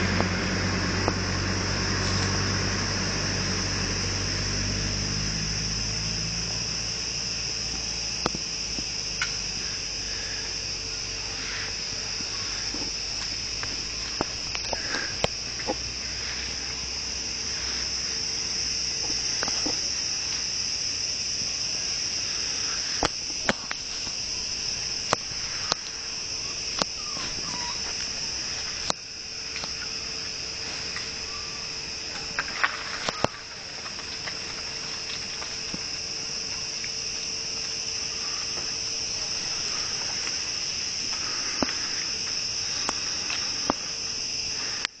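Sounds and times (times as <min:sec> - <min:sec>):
insects trilling: 0:00.0 - 0:45.0.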